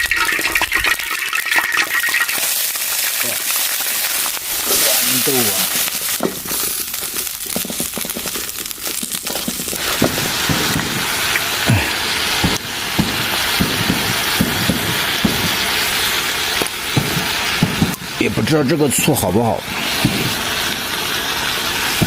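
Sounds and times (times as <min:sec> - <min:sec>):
oil crackling in a pan: 0:00.0 - 0:22.0
peas sizzling in hot oil: 0:00.0 - 0:22.0.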